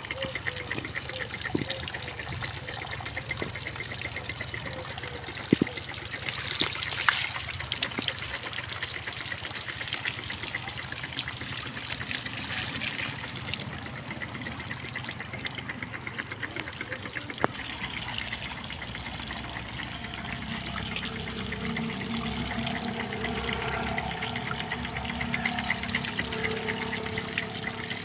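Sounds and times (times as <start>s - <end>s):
steady repeating machine sound: 0.0s - 28.0s
water dribbling into puddle: 0.0s - 28.0s
hose water spraying and splashing: 0.2s - 28.0s.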